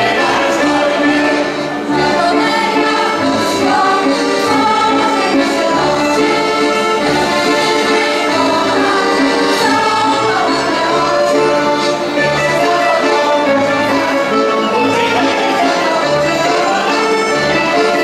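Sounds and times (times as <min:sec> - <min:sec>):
group singing folk song: 0:00.0 - 0:18.0.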